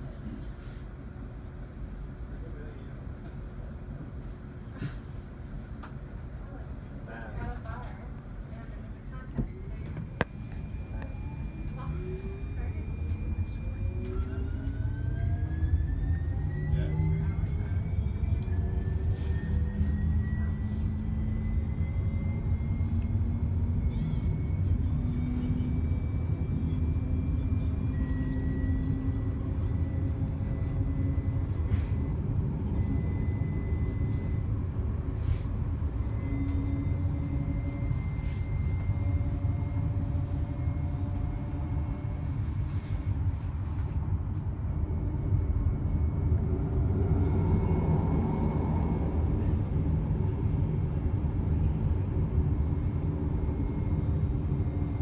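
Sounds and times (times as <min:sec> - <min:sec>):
train car rumble: 0:00.0 - 0:55.0.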